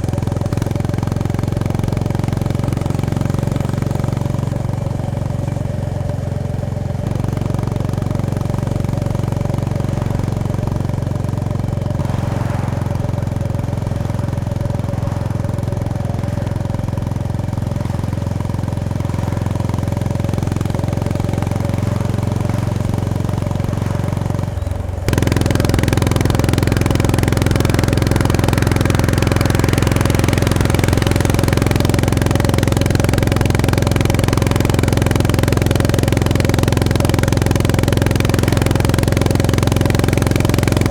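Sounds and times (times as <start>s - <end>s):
motorcycle engine and exhaust running: 0.0s - 40.9s.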